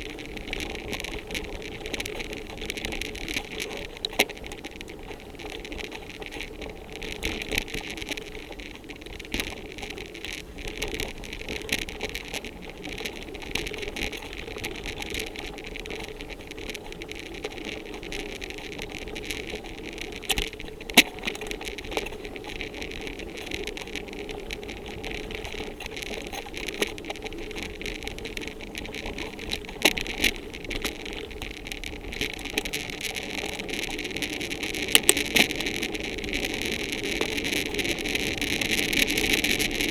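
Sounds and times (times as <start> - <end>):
bicycle rolling on trail: 0.0 - 39.9
bike rattling and knocking: 0.0 - 39.9.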